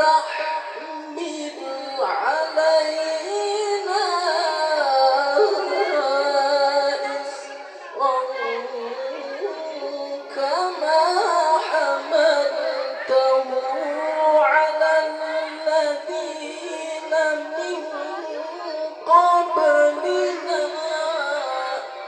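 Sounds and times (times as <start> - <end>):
person chanting melodic recitation: 0.0 - 22.0.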